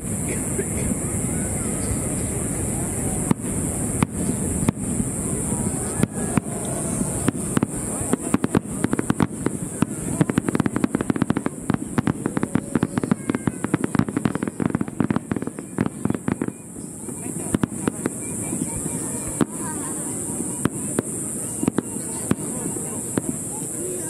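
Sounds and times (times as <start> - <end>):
fireworks bangs and crackle: 0.0 - 24.0.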